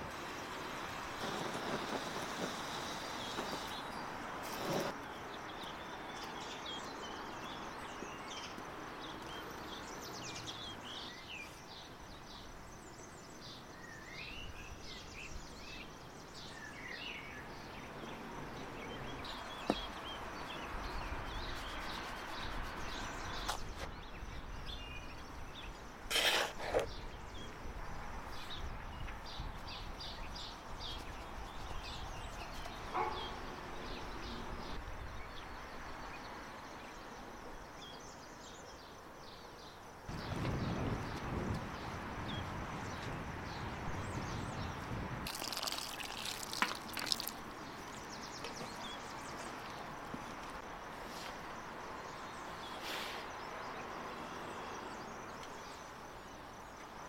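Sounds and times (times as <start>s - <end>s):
outdoor background noise: 0.0s - 57.0s
small birds chirping and singing: 0.4s - 57.0s.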